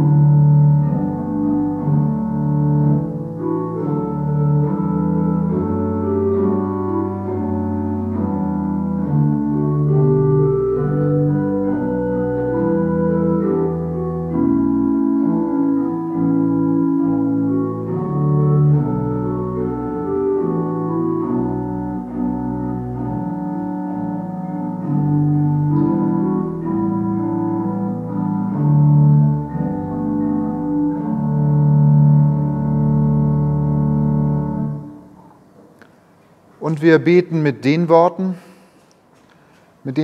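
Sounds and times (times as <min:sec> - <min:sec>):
organ playing slow chords: 0:00.0 - 0:40.0.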